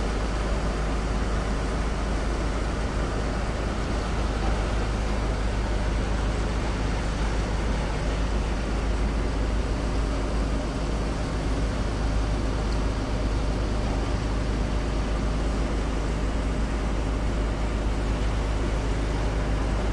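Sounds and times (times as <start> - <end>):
low engine rumble: 0.0 - 19.9
water noise: 0.0 - 19.9
wind: 0.0 - 19.9.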